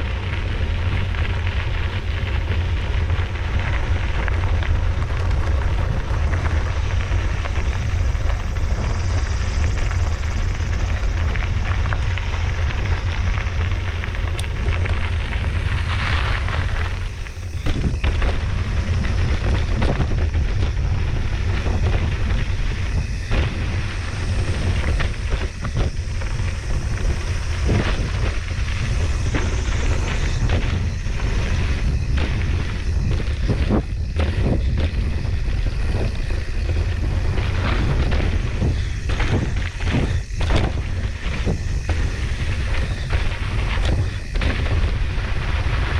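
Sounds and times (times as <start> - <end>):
bike rattling: 0.0 - 45.9
bike tyres rolling on dirt: 0.0 - 45.9
wind buffeting microphone: 0.0 - 45.9.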